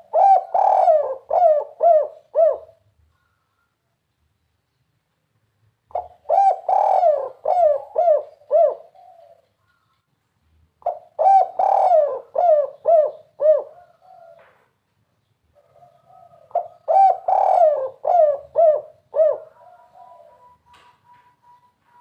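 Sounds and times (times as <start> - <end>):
dove cooing song: 0.0 - 3.8, 5.9 - 10.0, 10.8 - 14.8, 15.5 - 22.0.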